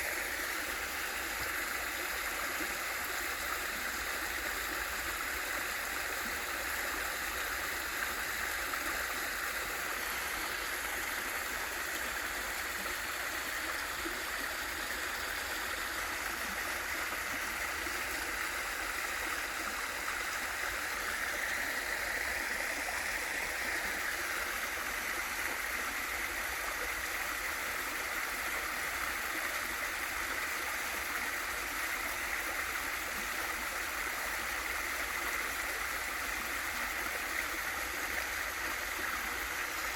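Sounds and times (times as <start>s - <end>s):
stream splashing over rocks: 0.1s - 39.9s.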